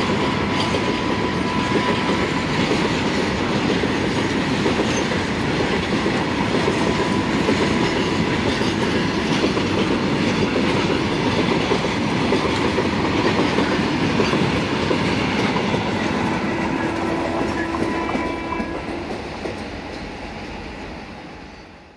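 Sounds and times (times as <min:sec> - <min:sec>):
freight train rumbling: 0:00.0 - 0:21.9.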